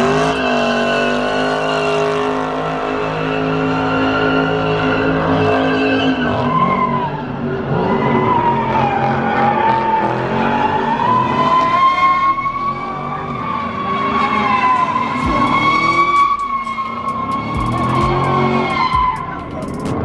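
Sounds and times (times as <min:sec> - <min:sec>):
car engine revving: 0:00.0 - 0:20.0
car tires squealing: 0:00.0 - 0:20.0.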